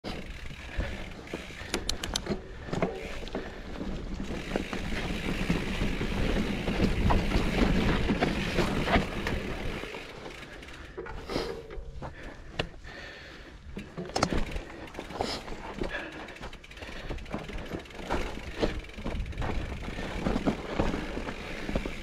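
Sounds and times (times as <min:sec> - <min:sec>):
bike rattling: 0:00.0 - 0:22.0
bike tyre rumble: 0:00.0 - 0:22.0
clicks and knocks over bumps: 0:00.1 - 0:12.8, 0:13.7 - 0:22.0.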